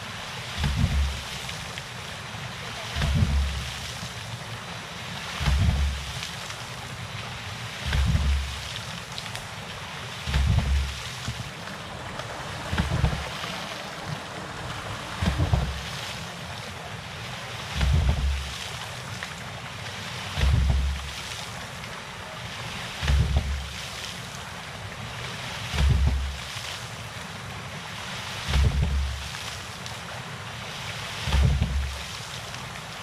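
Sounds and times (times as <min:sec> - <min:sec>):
flowing water rushing: 0:00.0 - 0:33.0.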